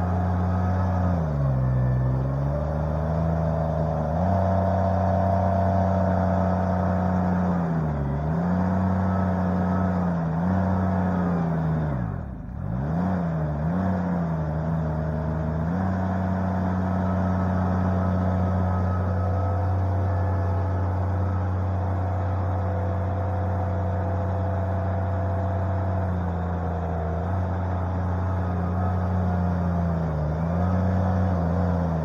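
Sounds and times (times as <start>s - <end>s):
skid loader engine running: 0.0s - 32.0s.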